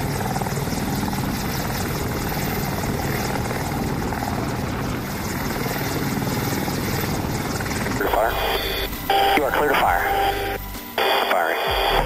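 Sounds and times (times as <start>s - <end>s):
helicopter rotor and engines: 0.0s - 12.0s.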